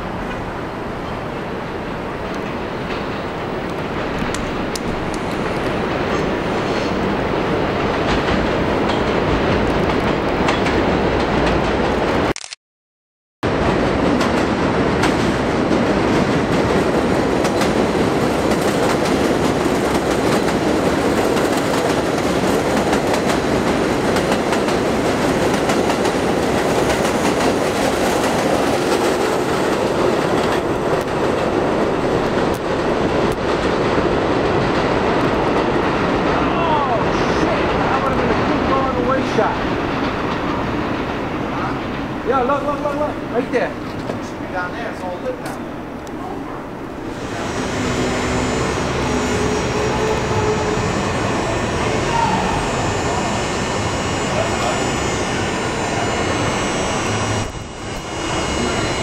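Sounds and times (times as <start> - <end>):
train wheels rumbling on rail: 0.0 - 12.3, 13.4 - 59.0.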